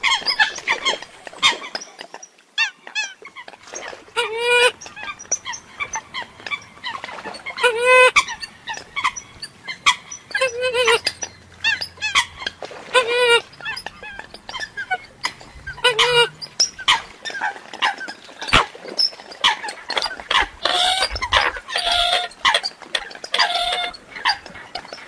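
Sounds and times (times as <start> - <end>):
coots calling: 0.0 - 2.0, 2.6 - 25.0.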